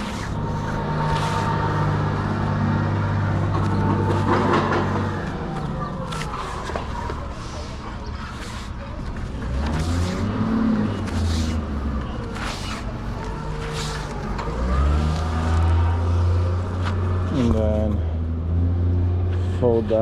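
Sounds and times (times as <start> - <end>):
heavy vehicle engine revving: 0.0 - 20.0.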